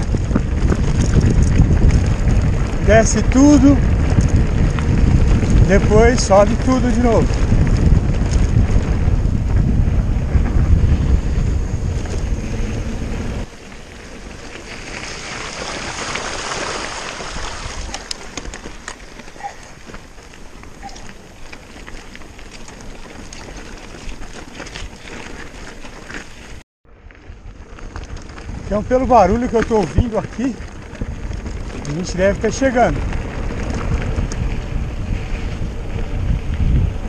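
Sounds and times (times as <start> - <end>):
bike tyres rattling over gravel: 0.0 - 37.0
wind buffeting microphone: 0.0 - 37.0.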